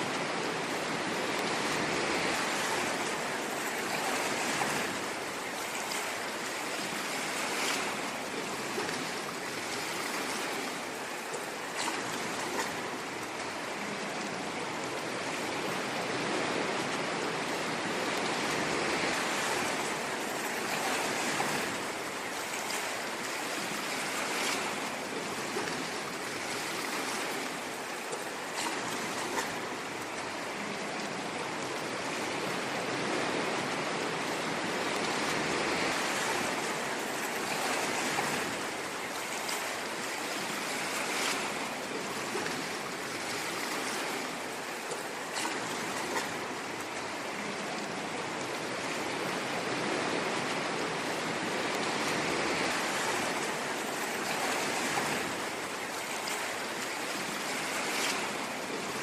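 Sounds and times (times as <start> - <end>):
ocean waves washing onto shore: 0.0 - 59.0.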